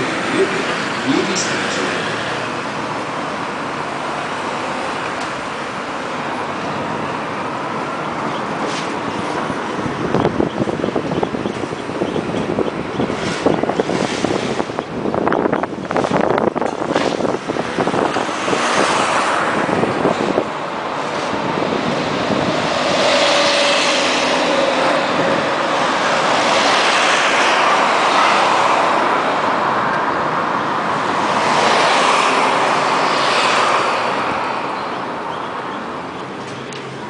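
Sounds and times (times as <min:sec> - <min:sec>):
tram rolling on rails: 0:00.0 - 0:37.0.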